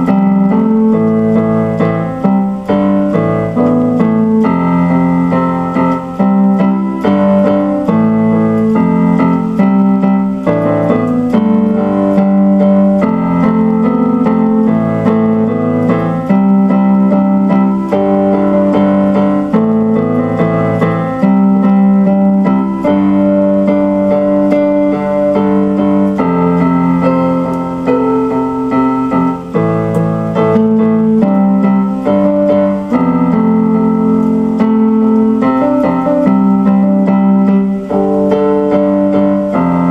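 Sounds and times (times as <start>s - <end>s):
electric piano chords: 0.0s - 39.9s.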